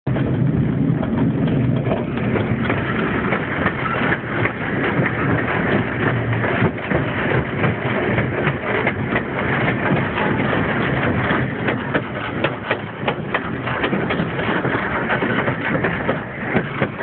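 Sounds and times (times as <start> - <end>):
train rumble: 0.1 - 17.0
wheels clattering over rails: 0.1 - 17.0.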